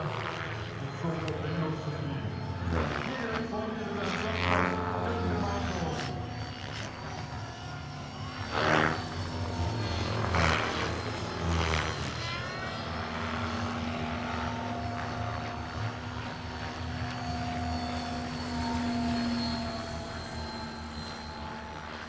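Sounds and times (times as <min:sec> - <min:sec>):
model helicopter whine: 0:00.0 - 0:22.0.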